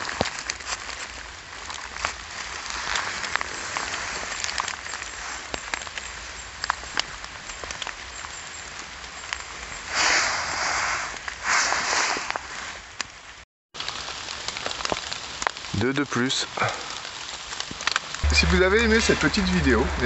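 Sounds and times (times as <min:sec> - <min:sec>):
rain on wet leaf litter: 0:00.0 - 0:20.0.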